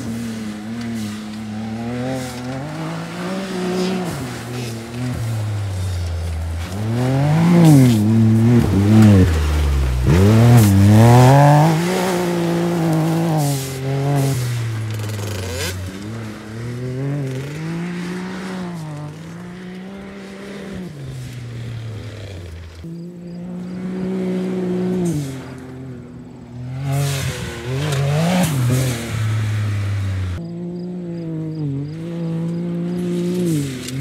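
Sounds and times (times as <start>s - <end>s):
engine revving: 0.0s - 34.0s.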